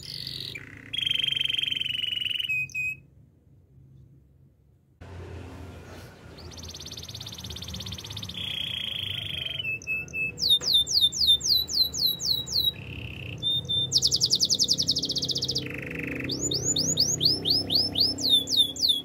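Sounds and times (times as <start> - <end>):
canary singing: 0.0 - 3.0, 6.2 - 19.0.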